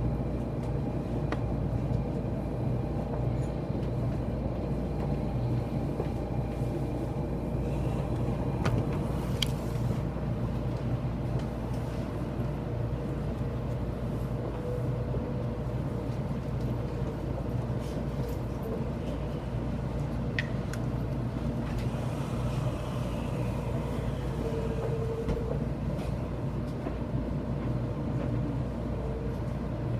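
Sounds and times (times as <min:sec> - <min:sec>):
train rumble from inside: 0:00.0 - 0:29.9.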